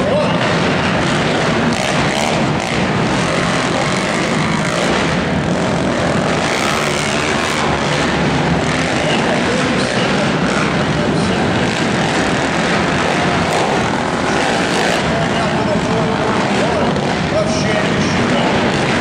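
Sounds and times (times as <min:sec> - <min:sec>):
atv engines racing: 0:00.0 - 0:19.0.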